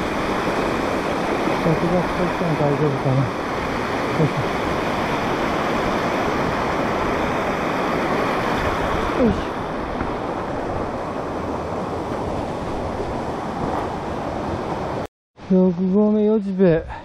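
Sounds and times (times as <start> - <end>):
stream rushing over boulders: 0.0 - 15.1.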